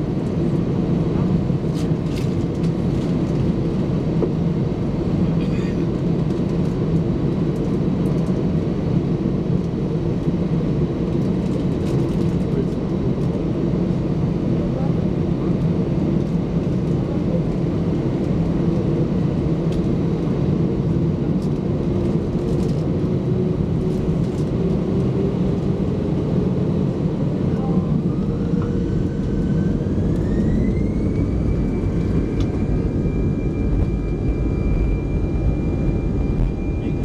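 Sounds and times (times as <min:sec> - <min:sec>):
aircraft cabin engine rumble: 0:00.0 - 0:37.0
jet engine whine: 0:00.0 - 0:37.0.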